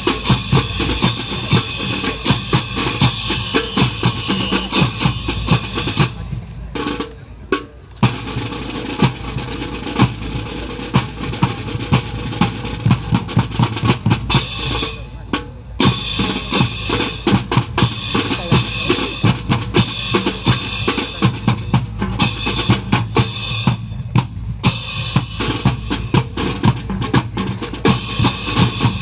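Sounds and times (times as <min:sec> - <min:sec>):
music with drum beat: 0:00.0 - 0:29.0.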